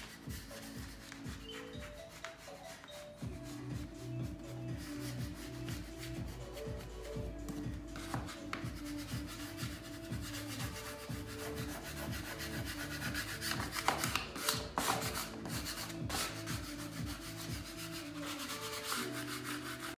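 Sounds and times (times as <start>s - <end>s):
background music: 0.0s - 20.0s
hand rubbing paper sheet: 0.0s - 20.0s.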